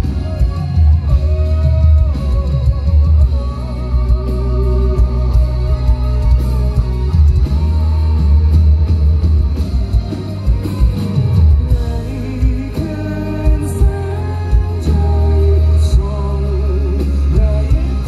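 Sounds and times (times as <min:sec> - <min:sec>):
man singing: 0:00.0 - 0:08.6, 0:11.4 - 0:18.0
live rock band playing: 0:00.0 - 0:18.0.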